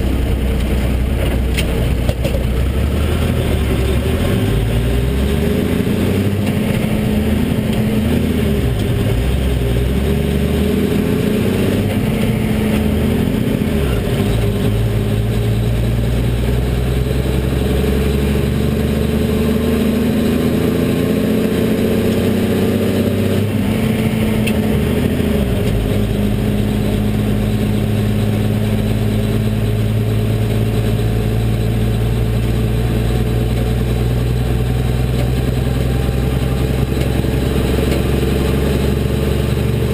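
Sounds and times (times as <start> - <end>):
diesel truck engine shifting gears: 0.0 - 39.9.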